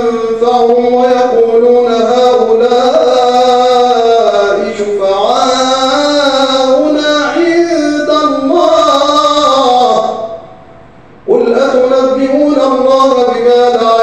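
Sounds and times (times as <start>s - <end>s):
man reciting in melodic chant: 0.0s - 10.6s, 11.2s - 14.0s.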